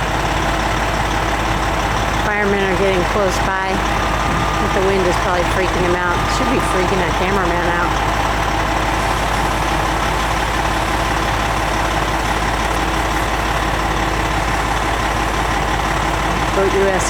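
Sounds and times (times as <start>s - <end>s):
heavy engine idling: 0.0s - 17.0s
wind rumbling on microphone: 3.0s - 17.0s.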